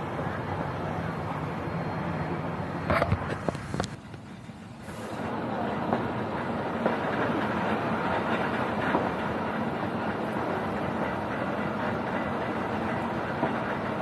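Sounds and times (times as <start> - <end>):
fire engine drone: 0.0 - 14.0.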